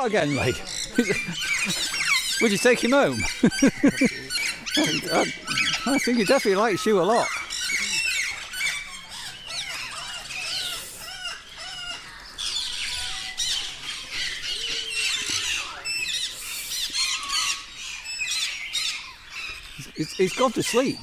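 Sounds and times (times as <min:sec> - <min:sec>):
parrots squawking and chirping: 0:00.0 - 0:21.0.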